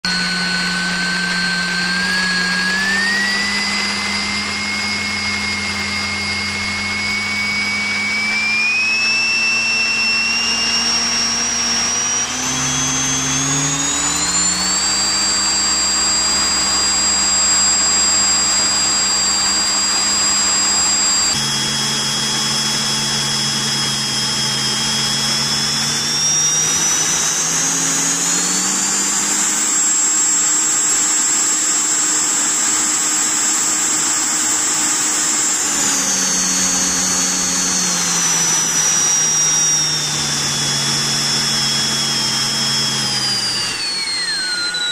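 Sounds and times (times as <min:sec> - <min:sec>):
electric ducted fan whine: 0:00.1 - 0:44.9.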